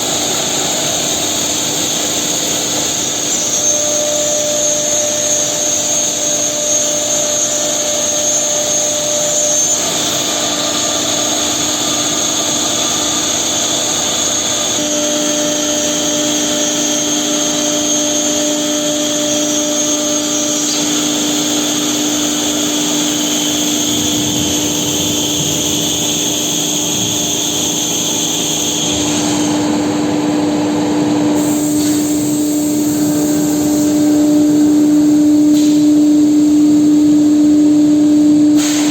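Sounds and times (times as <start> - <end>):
router machine whine: 0.0 - 38.6.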